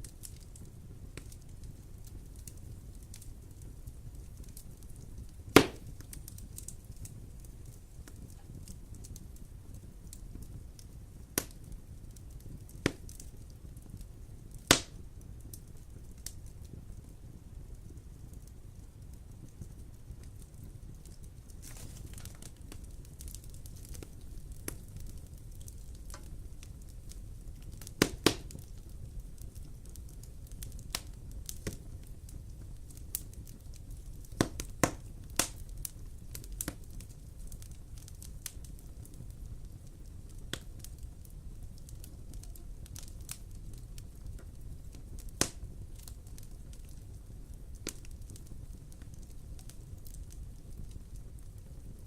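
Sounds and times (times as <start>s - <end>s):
sharp pops from fire: 0.0s - 52.0s
wood fire crackling: 0.0s - 52.0s.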